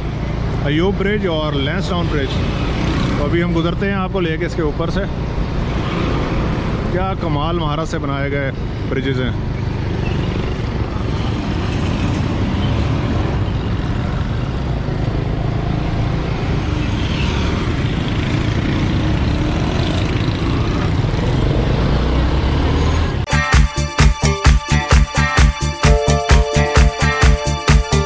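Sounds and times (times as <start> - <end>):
vehicle engine and road noise: 0.0 - 23.3.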